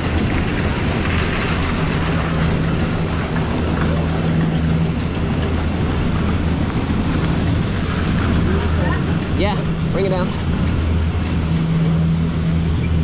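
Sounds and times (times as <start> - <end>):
chairlift machinery humming: 0.0 - 13.0.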